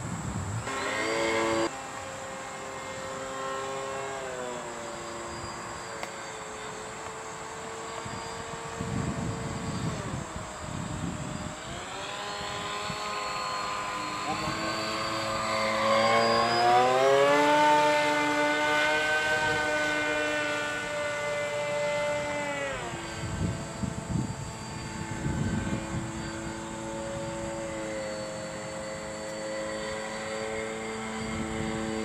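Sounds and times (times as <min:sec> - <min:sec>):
electric motor and propeller whining: 0:00.0 - 0:32.0.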